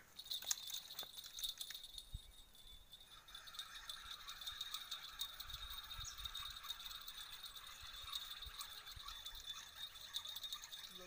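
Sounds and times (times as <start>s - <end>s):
fishing reel ticking: 0.2s - 11.0s.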